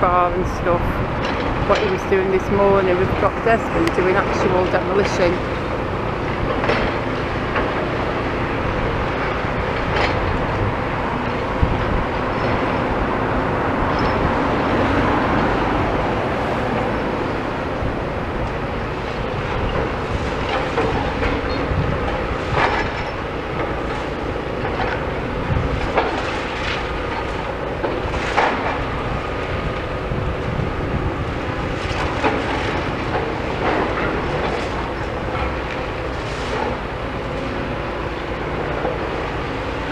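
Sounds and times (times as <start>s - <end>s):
excavator engine and hydraulic drone: 0.0s - 39.9s.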